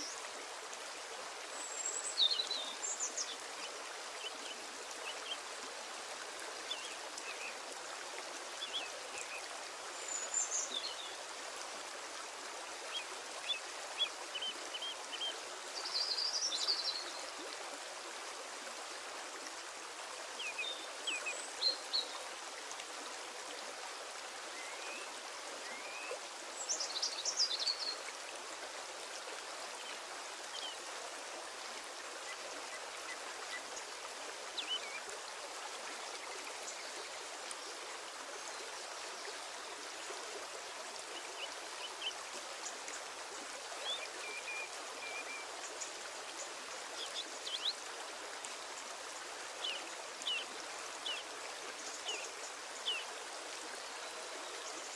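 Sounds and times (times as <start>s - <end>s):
background hiss: 0.0s - 54.9s.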